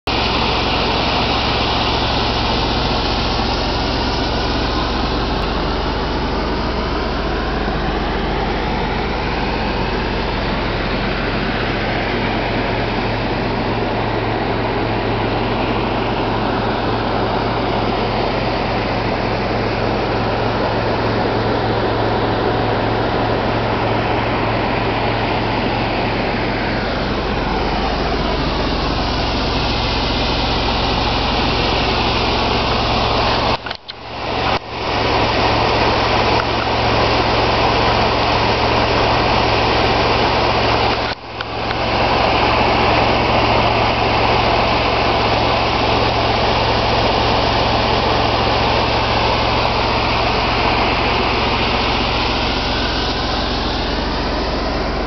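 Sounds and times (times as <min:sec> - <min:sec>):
vehicle engine idling: 0:00.0 - 0:55.0
water pouring over a dam: 0:00.1 - 0:55.0.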